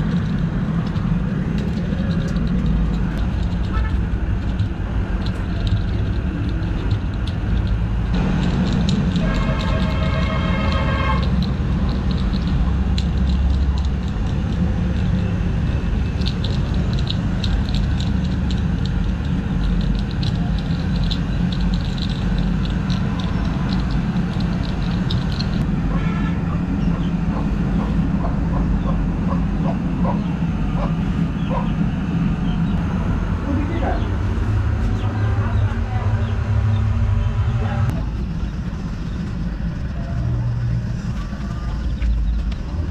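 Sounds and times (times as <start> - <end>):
low mechanical rumble: 0.0 - 42.9.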